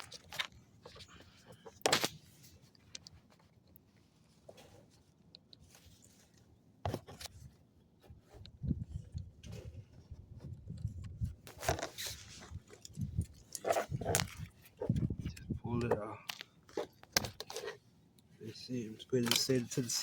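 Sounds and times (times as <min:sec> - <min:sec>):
rustling handling noise: 0:00.0 - 0:20.0.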